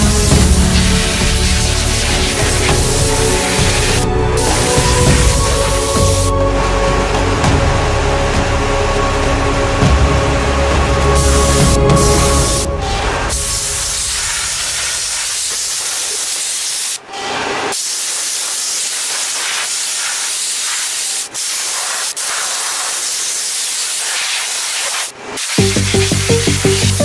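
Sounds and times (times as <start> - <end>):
compressed air blaster hissing: 0.0 - 6.4, 11.1 - 27.0.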